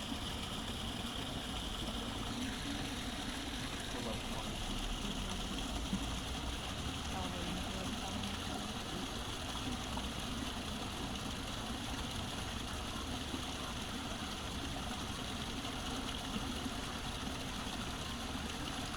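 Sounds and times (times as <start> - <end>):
running water: 0.0 - 18.9.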